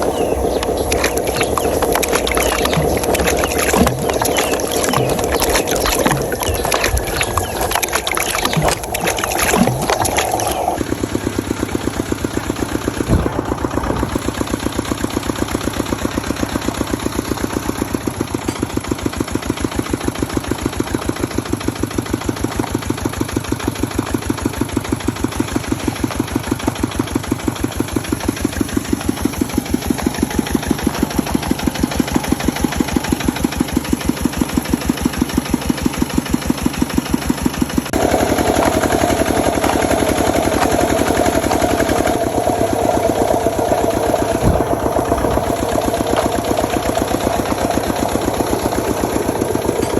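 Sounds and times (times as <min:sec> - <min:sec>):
toy truck engine chugging: 0:00.0 - 0:49.9.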